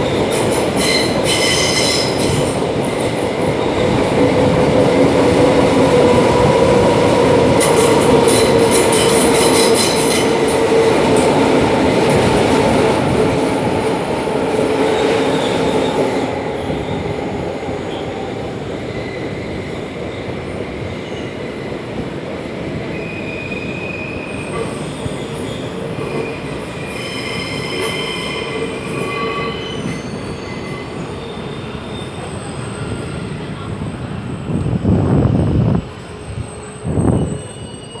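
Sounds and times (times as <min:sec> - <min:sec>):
wheels squealing on rails: 0:00.0 - 0:38.0.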